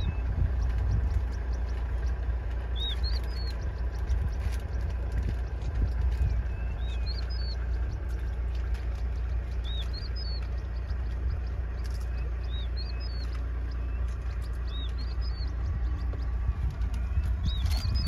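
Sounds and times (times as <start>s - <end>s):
bird singing whistled notes: 0.0s - 18.0s
steady low rumble: 0.0s - 18.0s.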